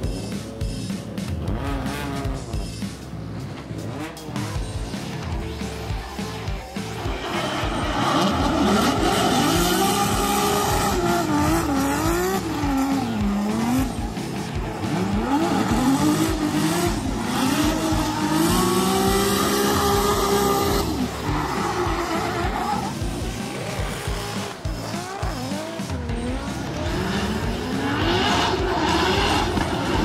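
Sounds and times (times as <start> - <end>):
car engine revving hard: 1.0 - 5.3, 7.0 - 30.0.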